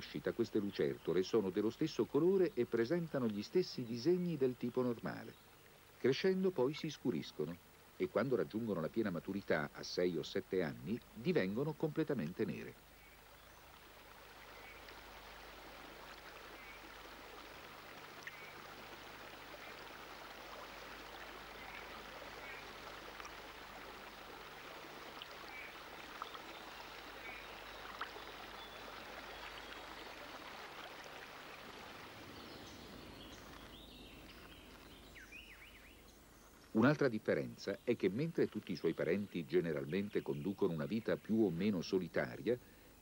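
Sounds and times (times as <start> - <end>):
stream flowing over rocks: 0.0 - 35.2.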